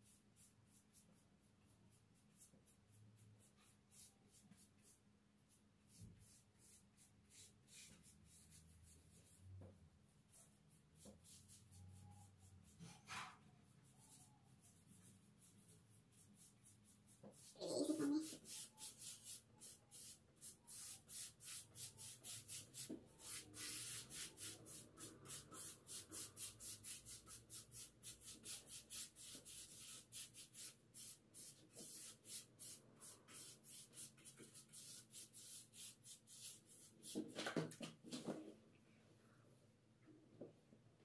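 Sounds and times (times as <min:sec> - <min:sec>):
paintbrush scratchy strokes: 0:00.0 - 0:37.3.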